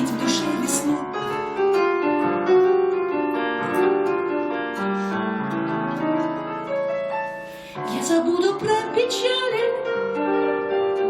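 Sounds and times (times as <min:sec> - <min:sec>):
piano chords and melody: 0:00.0 - 0:11.0.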